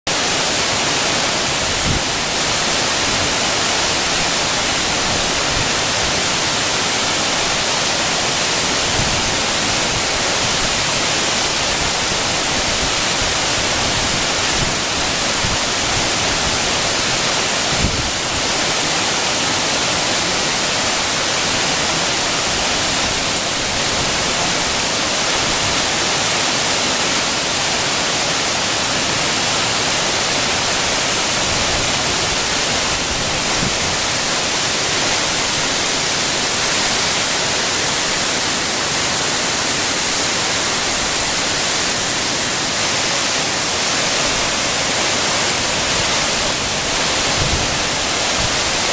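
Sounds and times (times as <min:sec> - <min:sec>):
waterfall rushing onto rocks: 0:00.1 - 0:48.9.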